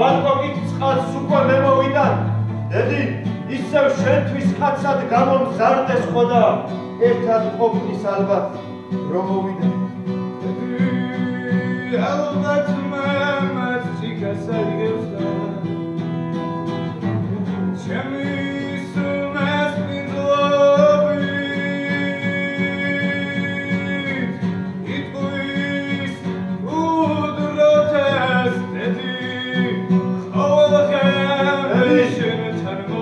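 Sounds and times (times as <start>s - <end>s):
acoustic guitar: 0.0s - 33.0s
man singing: 0.0s - 33.0s.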